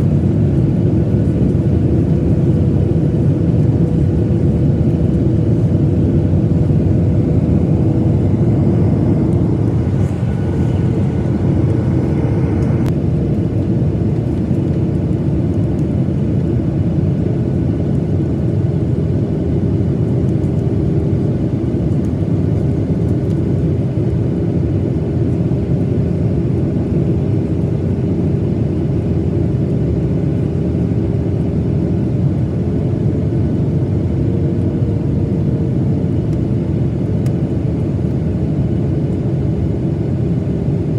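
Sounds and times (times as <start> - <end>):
airplane cabin roar: 0.0 - 40.9
faint engine hum: 0.0 - 40.9.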